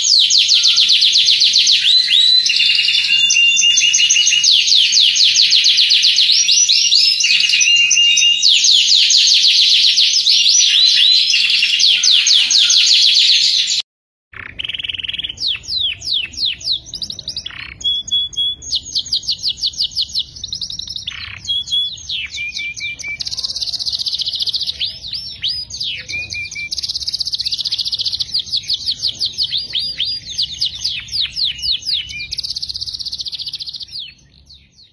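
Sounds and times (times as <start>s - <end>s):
canaries singing trills: 0.0s - 13.8s, 14.4s - 34.9s.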